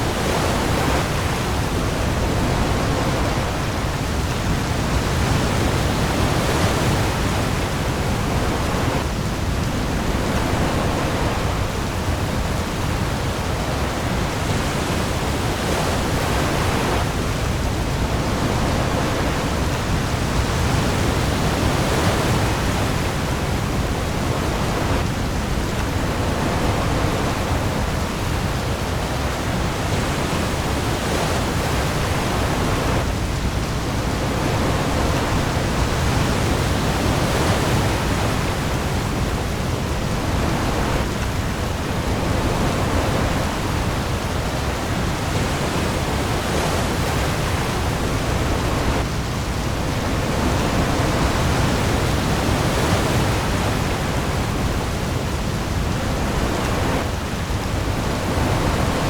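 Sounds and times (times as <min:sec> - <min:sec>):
heavy rain on the sea: 0:00.0 - 0:59.0
waves rumbling: 0:00.0 - 0:59.0.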